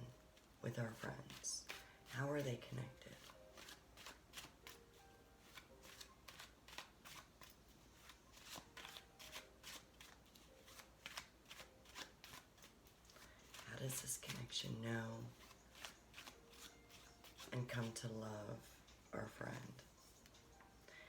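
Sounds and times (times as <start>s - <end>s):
cards being shuffled by hand: 0.4s - 18.4s.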